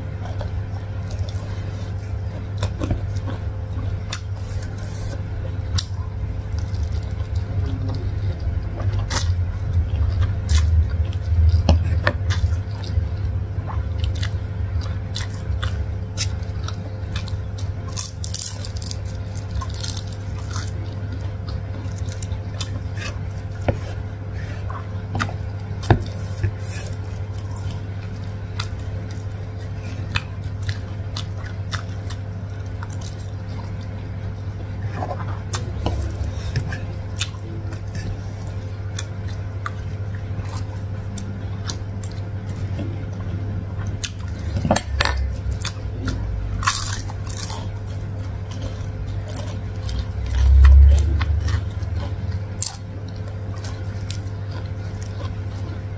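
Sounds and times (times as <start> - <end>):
low hum: 0.0 - 55.9
person chewing and slurping: 0.0 - 55.9.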